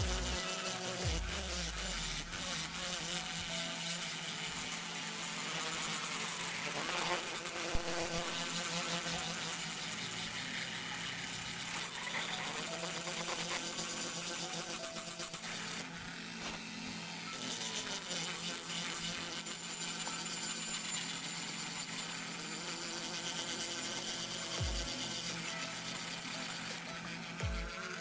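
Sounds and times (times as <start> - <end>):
rotary grinder whining: 0.0 - 28.0.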